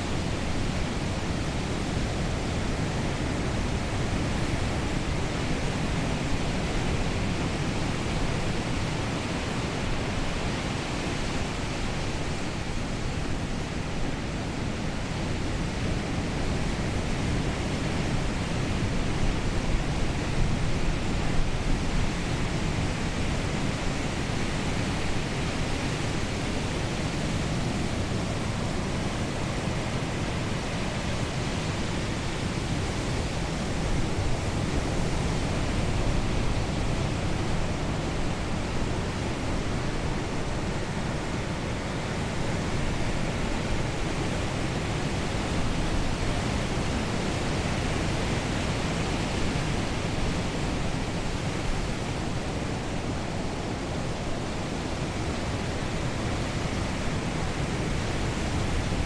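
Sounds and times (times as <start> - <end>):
ocean surf washing on beach: 0.0 - 59.0.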